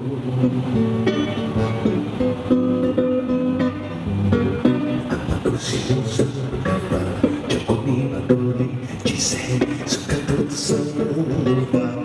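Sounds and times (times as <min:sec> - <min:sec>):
man singing: 0:00.0 - 0:02.2, 0:04.1 - 0:12.0
fingerpicked electric guitar: 0:00.0 - 0:12.0.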